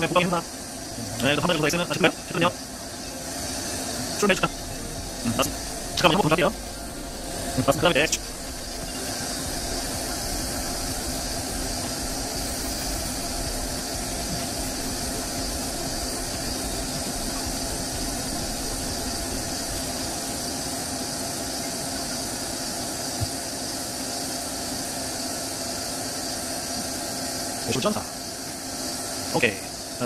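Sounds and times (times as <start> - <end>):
lathe humming: 0.0 - 25.2
high hiss: 0.0 - 30.0.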